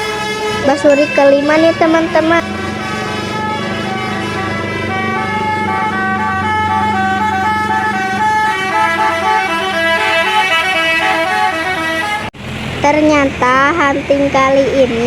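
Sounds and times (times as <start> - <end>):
bus horn playing a tune: 0.0 - 12.3.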